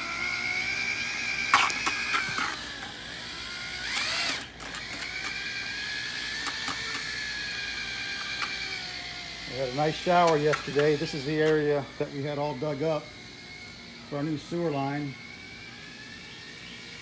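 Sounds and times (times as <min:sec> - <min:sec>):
drill with paddle mixer whining: 0:00.0 - 0:17.0.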